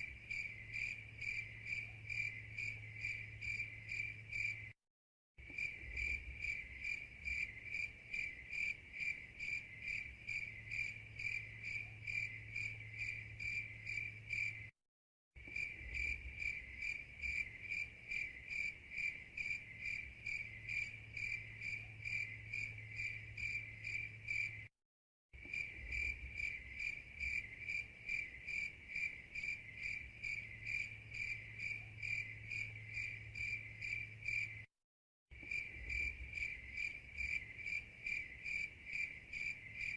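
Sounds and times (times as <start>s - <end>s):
cricket chirping: 0.0s - 4.8s, 5.4s - 14.8s, 15.4s - 24.7s, 25.4s - 34.7s, 35.4s - 39.9s.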